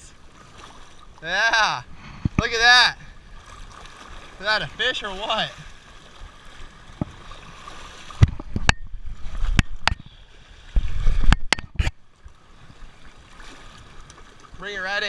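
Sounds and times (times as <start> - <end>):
water splashing against rocks: 0.1 - 15.0.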